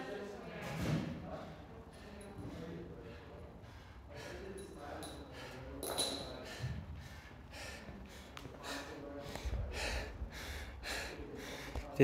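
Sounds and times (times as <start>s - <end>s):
person breathing hard: 1.4s - 12.0s.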